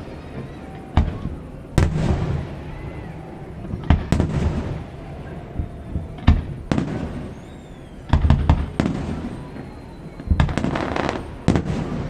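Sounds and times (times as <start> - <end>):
faint gliding whistle: 0.0 - 12.0
fireworks booming: 0.0 - 12.0.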